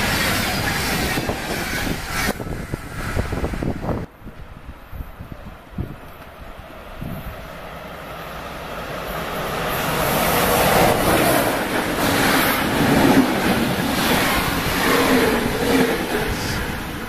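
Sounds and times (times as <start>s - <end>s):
passenger train passing at speed: 0.0s - 17.0s
wheels rumbling on rail: 0.0s - 17.0s.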